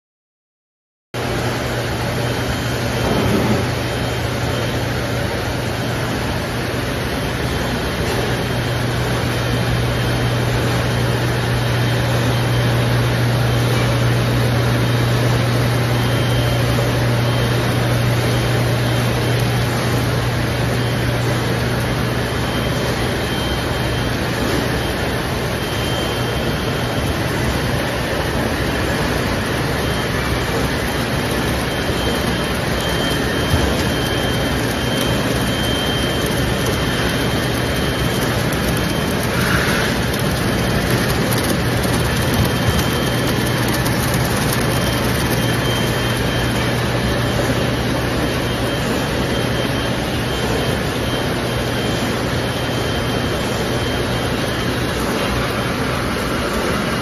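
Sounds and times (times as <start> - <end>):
machinery humming: 1.2 - 57.0.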